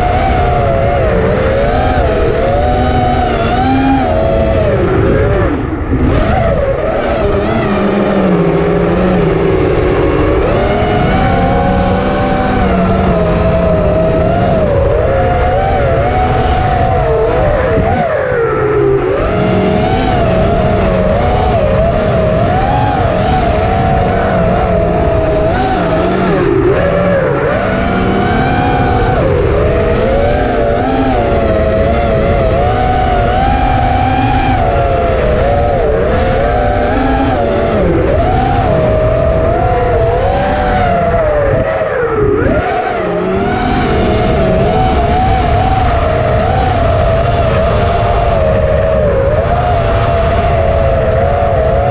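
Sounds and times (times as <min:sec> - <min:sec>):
drone motors whining: 0:00.0 - 0:51.9.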